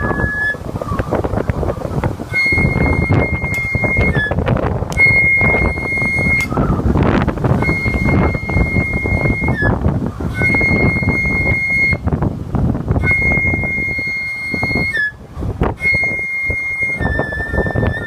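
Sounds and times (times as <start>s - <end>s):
flute playing long high notes: 0.0s - 1.1s, 2.2s - 12.1s, 13.0s - 18.0s
wind buffeting microphone: 0.0s - 18.0s.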